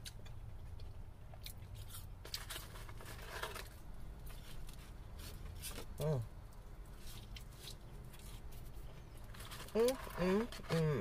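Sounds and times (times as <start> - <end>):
person chewing: 0.0 - 10.8.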